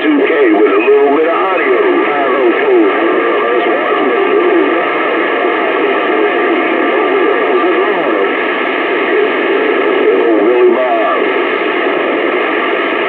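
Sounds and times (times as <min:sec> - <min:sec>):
garbled radio voices: 0:00.0 - 0:13.0
radio static hiss: 0:00.0 - 0:13.0
wavering radio tones: 0:00.0 - 0:13.0.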